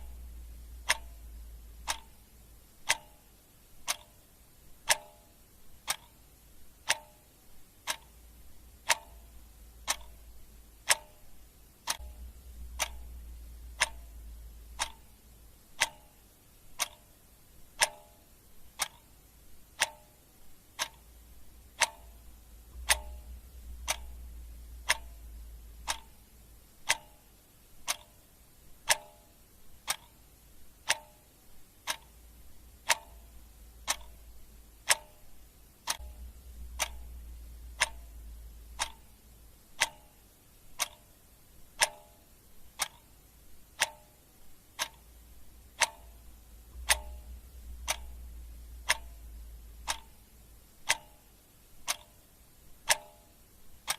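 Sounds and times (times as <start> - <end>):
clock ticking: 0.0 - 53.9.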